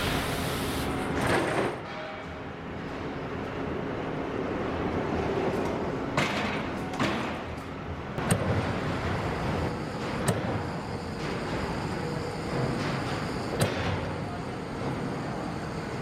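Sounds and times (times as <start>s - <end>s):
industrial machinery hum: 0.0s - 16.0s.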